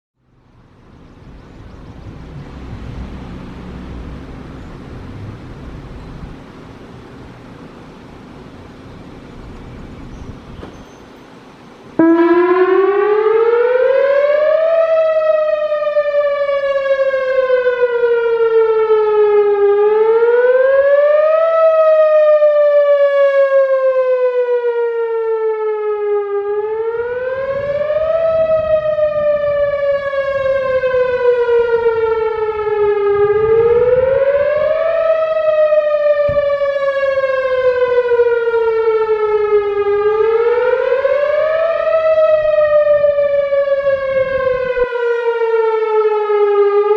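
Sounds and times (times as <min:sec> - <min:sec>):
warning siren wailing: 0:00.4 - 0:10.2, 0:11.9 - 0:46.9.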